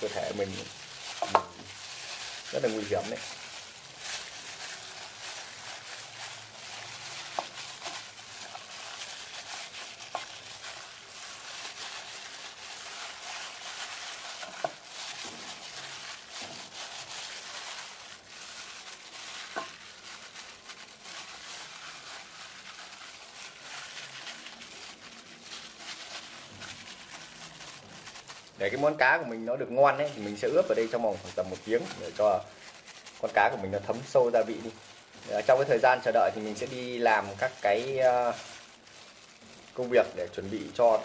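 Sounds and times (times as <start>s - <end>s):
gloved hands rubbing wet fish: 0.0s - 41.0s.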